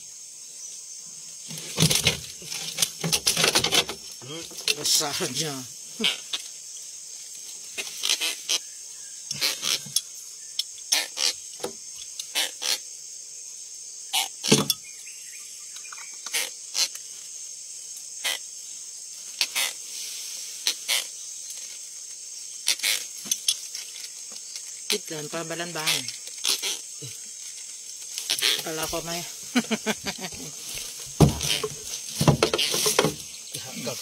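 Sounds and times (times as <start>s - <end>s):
insects shrilling: 0.0s - 34.0s.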